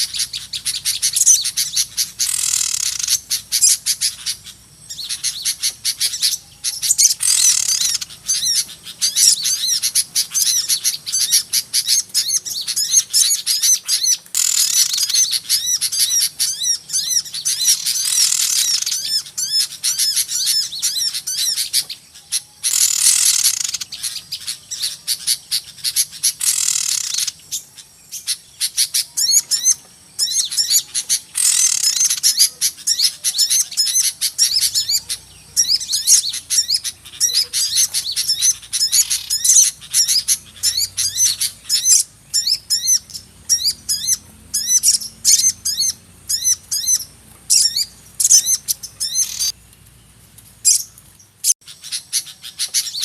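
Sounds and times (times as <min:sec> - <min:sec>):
small birds chattering: 0:00.0 - 0:53.0.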